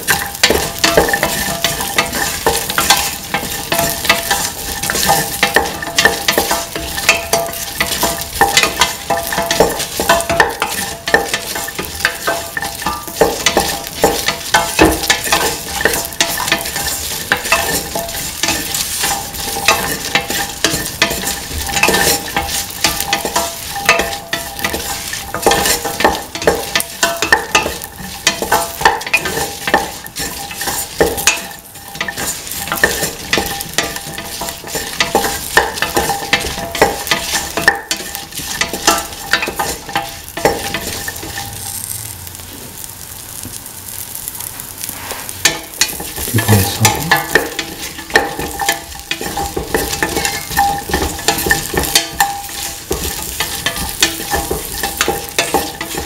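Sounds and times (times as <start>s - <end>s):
spatula scraping a pan: 0.0s - 42.0s, 44.2s - 56.0s
vegetables sizzling in oil: 0.0s - 56.0s.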